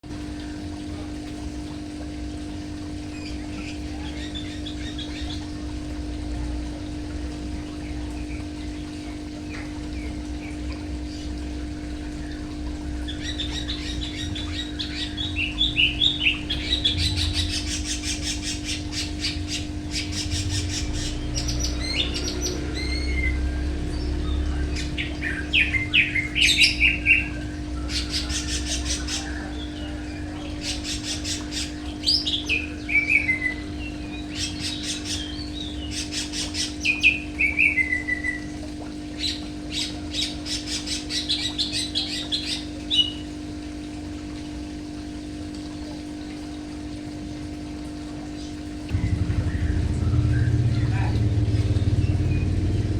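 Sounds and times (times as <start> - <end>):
steady low hum: 0.0 - 52.9
songbirds singing trills and whistles: 2.8 - 43.6, 48.3 - 52.9.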